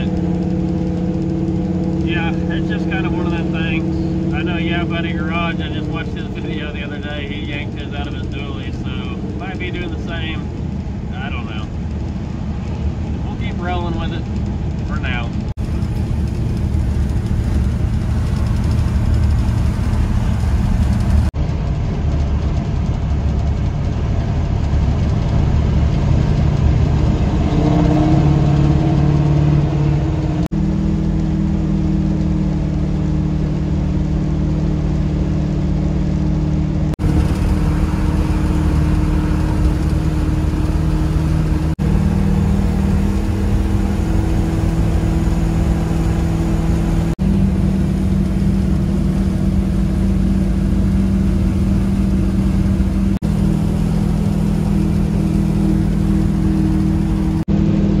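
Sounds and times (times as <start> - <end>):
engine drone inside cab: 0.0 - 58.0
tyre and road noise: 0.0 - 58.0.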